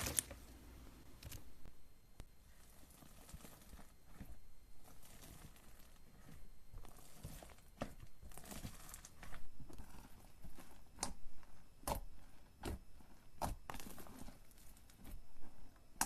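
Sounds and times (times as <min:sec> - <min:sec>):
slime squishing and crinkling: 0:00.0 - 0:00.5, 0:02.3 - 0:16.0.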